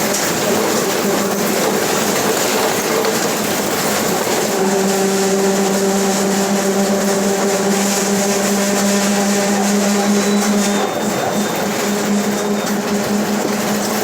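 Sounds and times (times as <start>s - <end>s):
bus differential droning: 0.0s - 14.0s.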